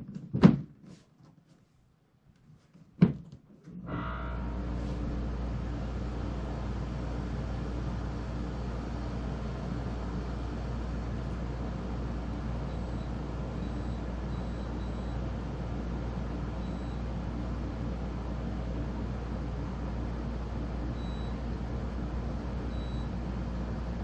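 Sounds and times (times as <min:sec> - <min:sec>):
dehumidifier humming: 0:03.9 - 0:24.0.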